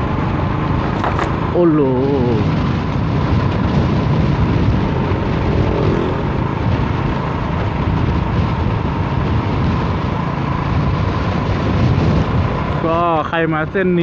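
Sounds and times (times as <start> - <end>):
strong wind on microphone: 0.0 - 14.0
vehicle engine and road noise: 0.0 - 14.0.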